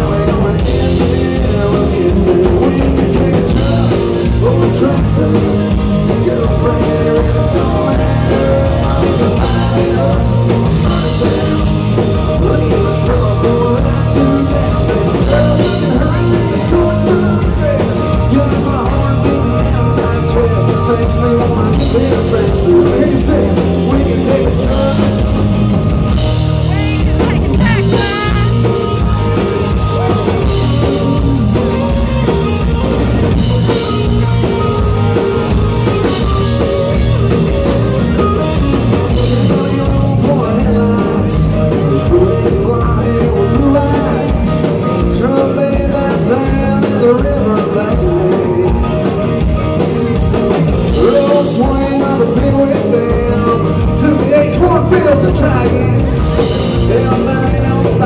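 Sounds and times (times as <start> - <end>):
man singing lead vocal: 0.0 - 31.7, 33.1 - 49.8, 50.4 - 58.0
drum kit: 0.0 - 58.0.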